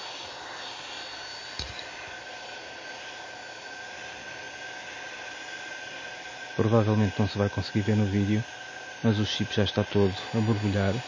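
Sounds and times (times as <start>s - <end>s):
faint high whine: 0.0s - 11.0s
hot air blower hissing: 0.0s - 11.0s.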